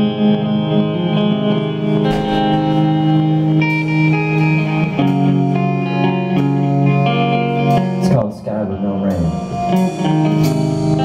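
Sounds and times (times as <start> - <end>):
electric guitar chords ringing: 0.0 - 11.0.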